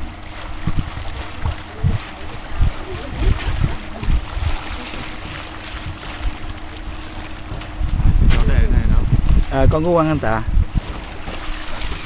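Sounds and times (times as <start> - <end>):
water splashing around wading legs: 0.0 - 8.6, 10.7 - 12.0
wind buffeting microphone: 0.0 - 12.0.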